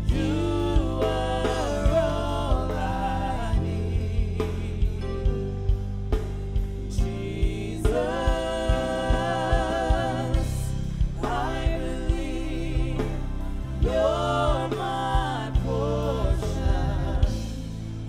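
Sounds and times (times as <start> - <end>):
band playing gospel music: 0.0 - 18.0
singers in harmony: 0.0 - 18.0.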